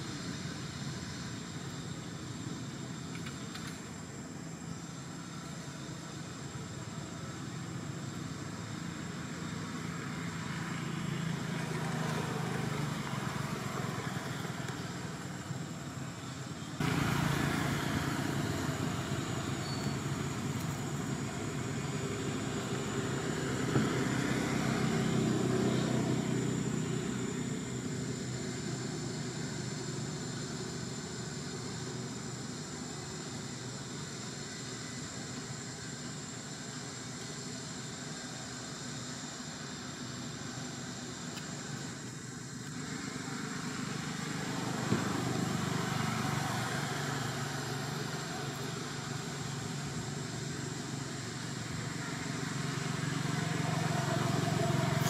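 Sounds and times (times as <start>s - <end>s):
vehicle engines humming: 0.0s - 55.0s.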